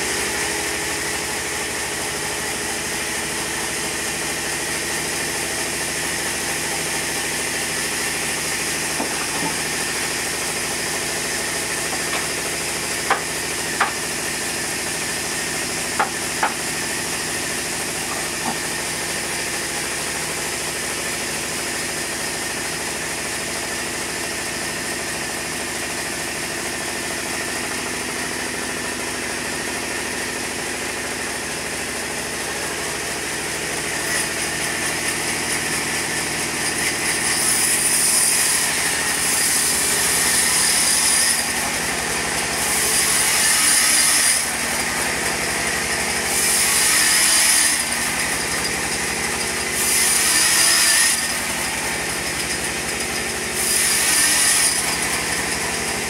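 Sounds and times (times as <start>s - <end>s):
saw blade cutting log: 0.0s - 56.0s
sawmill motor hum: 0.0s - 56.0s.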